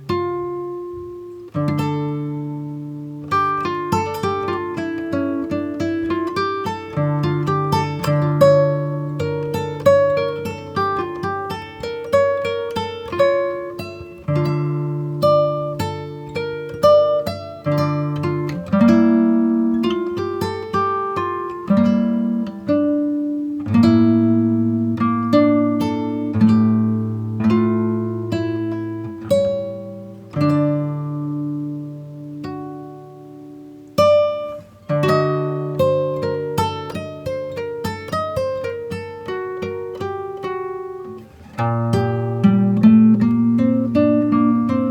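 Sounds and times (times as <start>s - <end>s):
plucked guitar notes: 0.0s - 44.9s.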